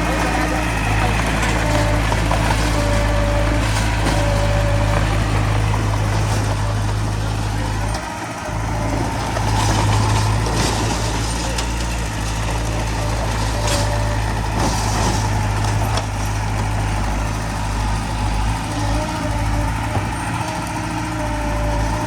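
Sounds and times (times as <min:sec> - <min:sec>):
diesel machinery engine hum: 0:00.0 - 0:22.0.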